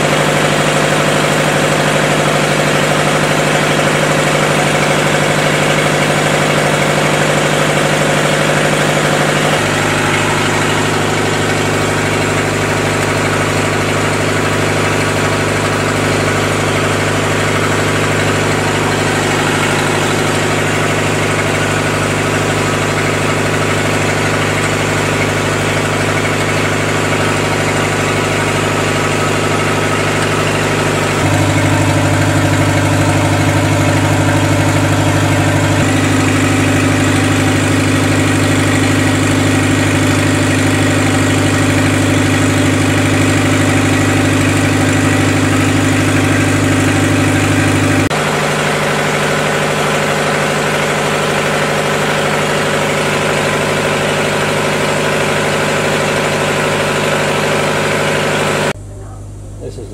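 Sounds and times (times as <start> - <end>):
diesel generator engine running: 0.0 - 59.9.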